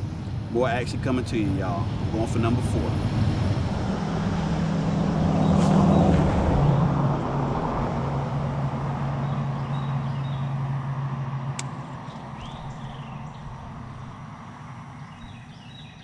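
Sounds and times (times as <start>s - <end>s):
passing engine hum: 0.0s - 16.0s.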